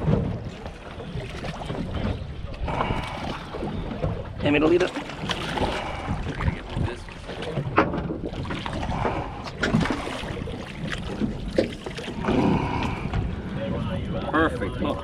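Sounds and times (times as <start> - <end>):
water against boat hull: 0.0 - 15.0
wind on microphone: 0.0 - 15.0.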